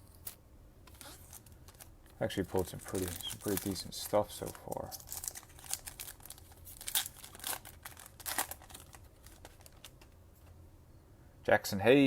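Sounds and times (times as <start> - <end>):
cards rustling and scraping: 0.0 - 10.5.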